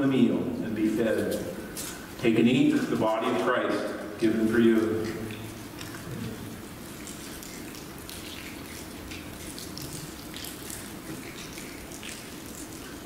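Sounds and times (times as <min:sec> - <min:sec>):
steady low hiss: 0:00.0 - 0:12.8.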